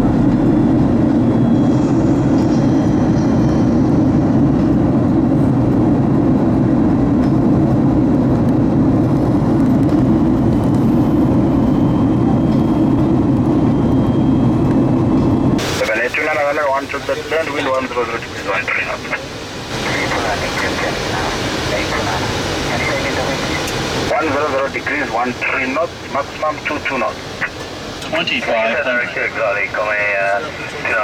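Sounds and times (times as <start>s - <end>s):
airplane cabin engine and airflow: 0.0s - 31.0s.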